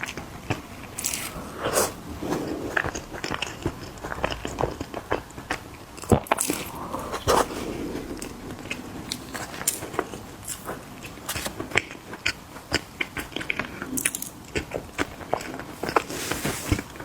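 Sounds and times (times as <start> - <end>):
chewing crisp cookies: 0.0 - 7.5, 8.1 - 17.0.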